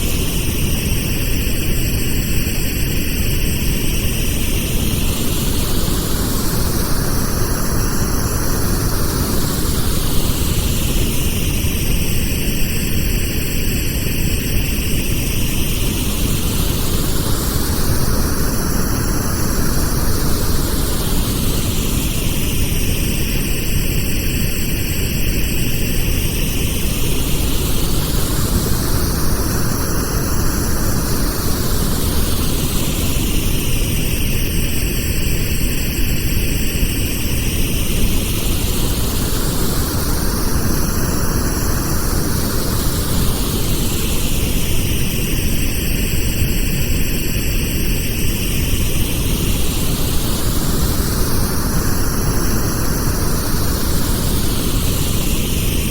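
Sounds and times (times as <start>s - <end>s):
steady pink noise: 0.0s - 55.9s.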